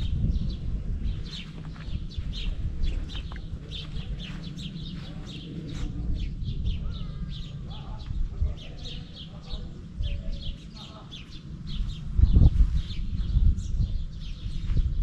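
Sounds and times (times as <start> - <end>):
constant low rumble: 0.0 - 15.0
small birds chirping: 0.0 - 15.0.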